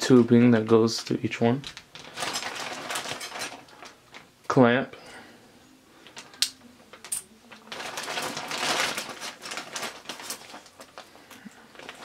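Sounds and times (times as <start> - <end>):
plastic bags crinkling: 0.0 - 4.4, 6.0 - 12.0.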